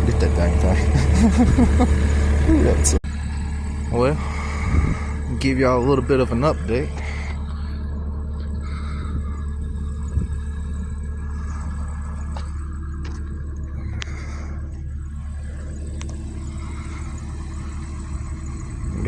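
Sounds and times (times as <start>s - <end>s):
excavator diesel engine droning: 0.0s - 19.0s.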